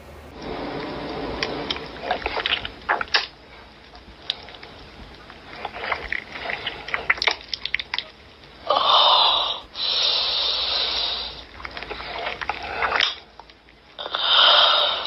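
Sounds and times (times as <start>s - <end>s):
licking and slurping: 0.3s - 15.0s.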